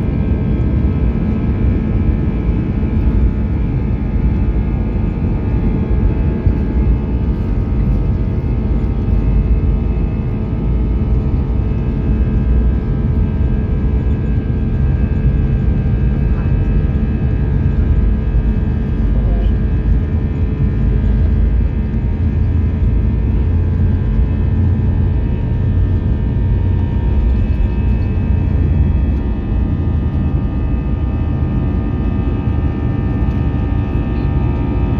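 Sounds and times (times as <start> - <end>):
jet engines rumbling and whining: 0.0 - 34.9.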